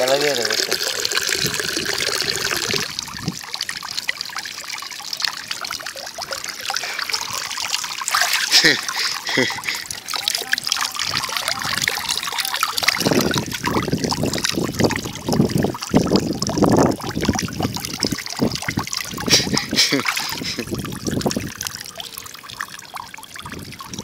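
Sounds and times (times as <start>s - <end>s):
water trickling and splashing: 0.0s - 24.0s.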